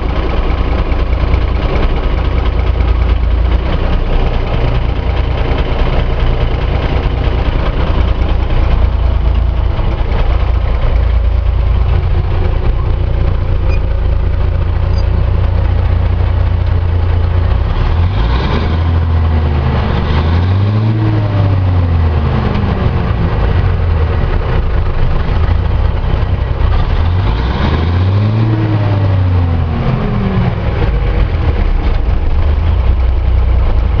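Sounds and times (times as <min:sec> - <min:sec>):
diesel engine idling and revving: 0:00.0 - 0:34.0.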